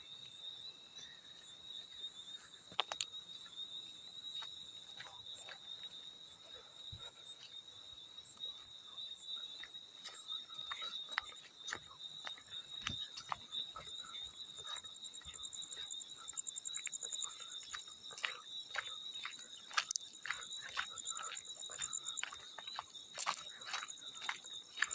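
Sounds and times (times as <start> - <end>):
cricket chirping: 0.0 - 24.9.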